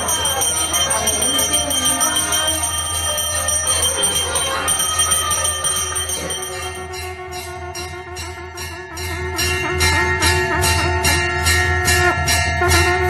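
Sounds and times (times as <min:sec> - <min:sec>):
temple bells ringing: 0:00.0 - 0:13.0.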